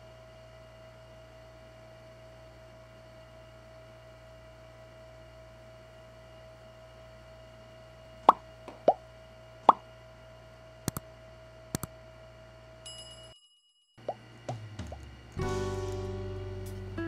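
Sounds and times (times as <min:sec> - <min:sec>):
steady electrical hum: 0:00.0 - 0:12.9, 0:14.0 - 0:17.0.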